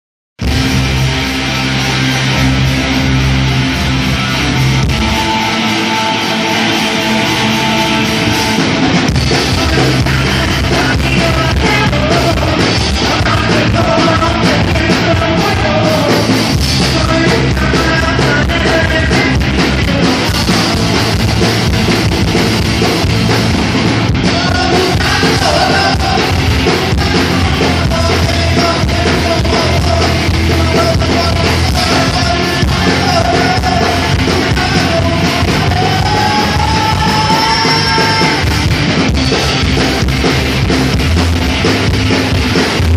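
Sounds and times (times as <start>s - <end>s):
drums: 0.4s - 42.9s
electric guitar: 0.4s - 42.9s.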